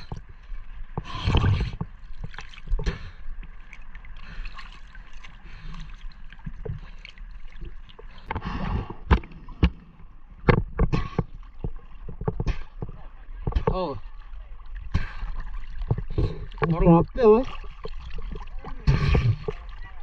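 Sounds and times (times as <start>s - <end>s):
sea water sloshing and splashing: 0.0s - 20.0s.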